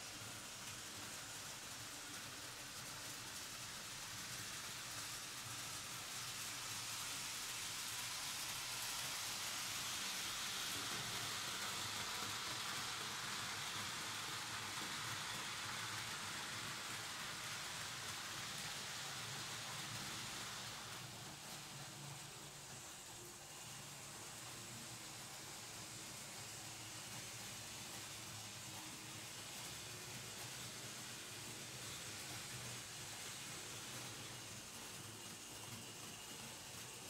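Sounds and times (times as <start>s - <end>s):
model train wheels on metal rails: 0.0s - 37.0s.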